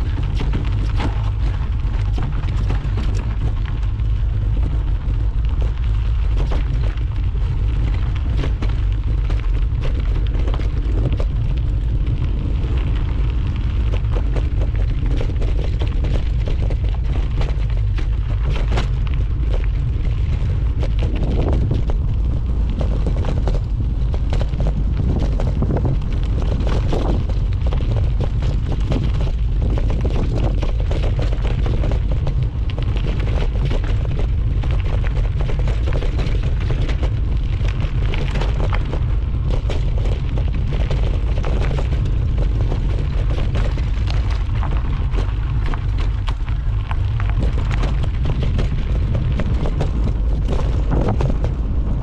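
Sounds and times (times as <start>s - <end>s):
mountain bike rattling on trail: 0.0s - 52.0s
wind buffeting microphone: 0.0s - 52.0s.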